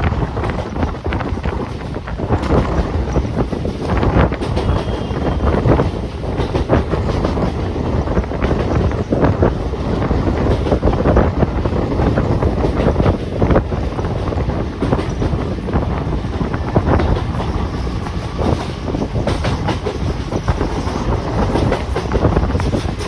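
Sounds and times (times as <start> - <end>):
train wheels rumbling on rail: 0.0 - 23.0
wind buffeting microphone: 0.0 - 23.0.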